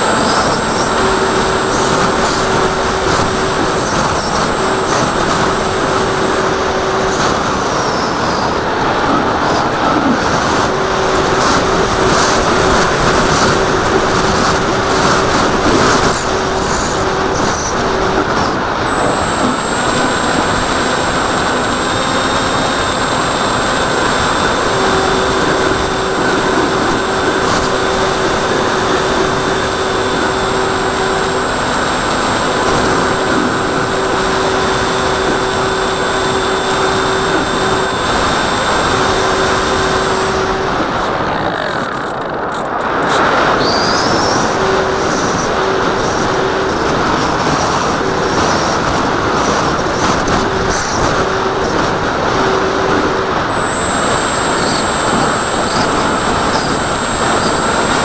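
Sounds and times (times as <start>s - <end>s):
electric motor and propeller whine: 0.0s - 58.0s
wind rushing over camera: 0.0s - 58.0s.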